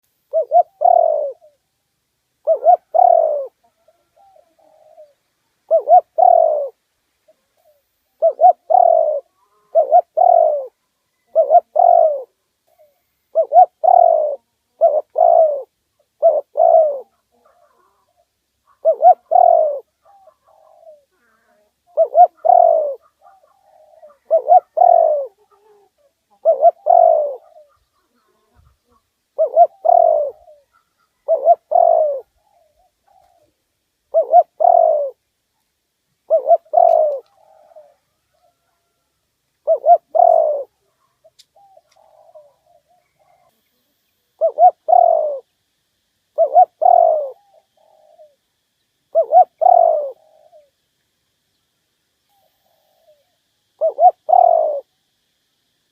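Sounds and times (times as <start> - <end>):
dove cooing: 0.0 - 1.8, 2.4 - 35.2, 36.2 - 45.5, 46.3 - 48.4, 49.1 - 50.8, 52.3 - 55.0.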